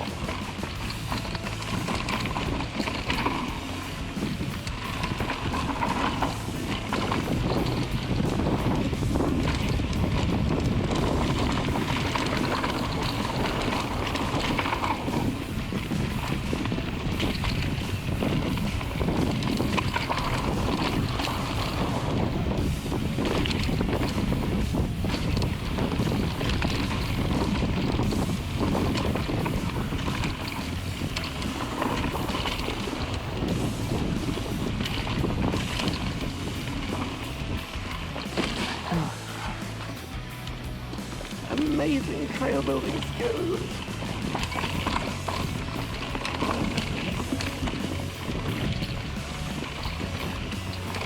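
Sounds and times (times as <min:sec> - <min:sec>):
bike rattling: 0:00.0 - 0:51.0
tyres crunching over dirt: 0:00.0 - 0:51.0
wind buffeting microphone: 0:00.0 - 0:51.0.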